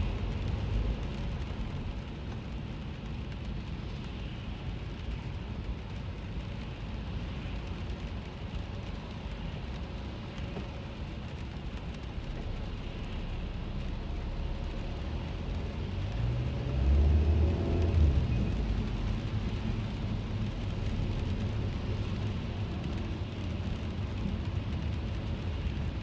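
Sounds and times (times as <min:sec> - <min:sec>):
raindrop ticks: 0:00.0 - 0:26.0
road and engine rumble: 0:00.0 - 0:26.0.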